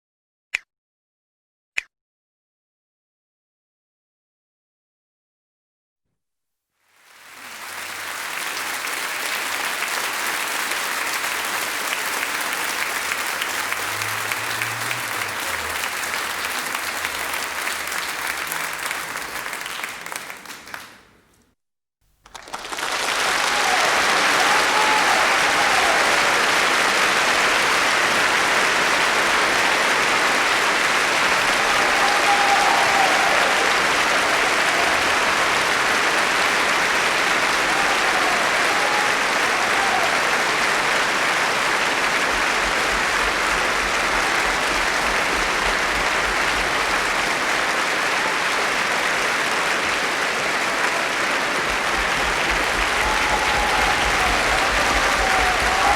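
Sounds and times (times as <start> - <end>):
crowd applause: 7.0 - 21.4, 22.2 - 55.9
crowd calls: 7.3 - 20.9, 22.7 - 55.9.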